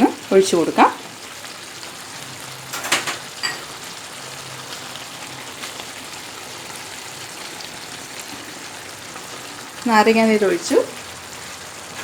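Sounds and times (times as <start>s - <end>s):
curry sizzling in a pan: 0.0s - 12.0s.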